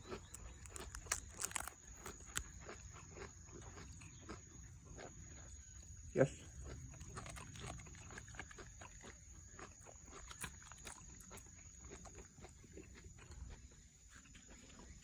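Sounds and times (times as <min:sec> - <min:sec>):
dog chewing crisp crunches: 0:00.0 - 0:15.0.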